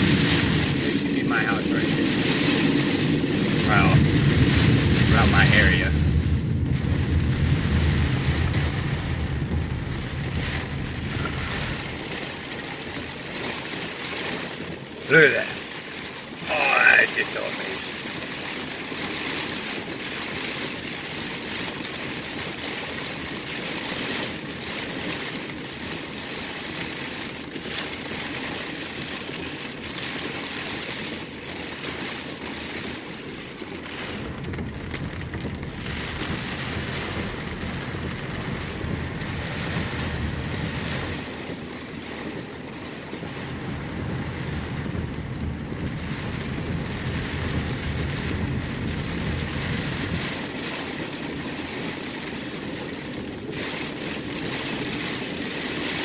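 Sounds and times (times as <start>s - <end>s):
rain and wind on a car: 0.0s - 56.0s.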